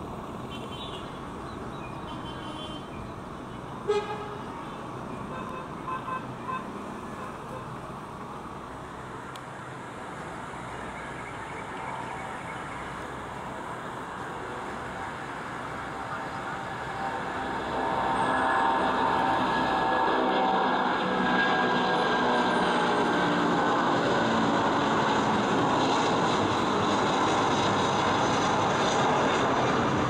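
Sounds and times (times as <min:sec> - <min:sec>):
jet engines roaring: 0:03.2 - 0:30.0.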